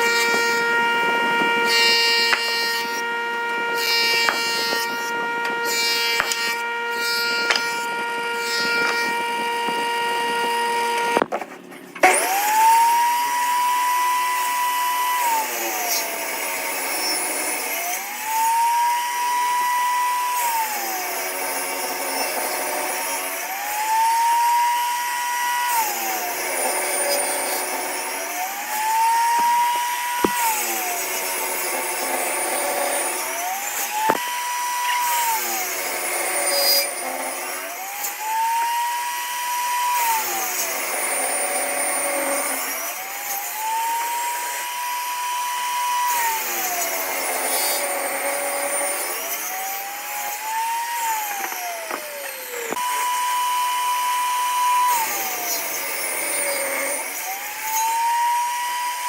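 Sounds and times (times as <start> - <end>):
power tool motor whine: 0.0 - 59.0.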